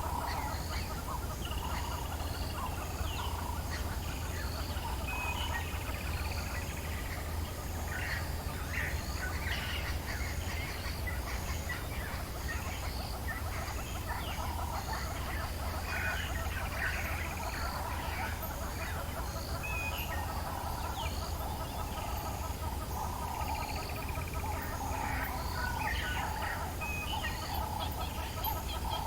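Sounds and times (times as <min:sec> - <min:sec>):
birds calling and chirping: 0:00.0 - 0:29.0
low background hum: 0:00.0 - 0:29.0.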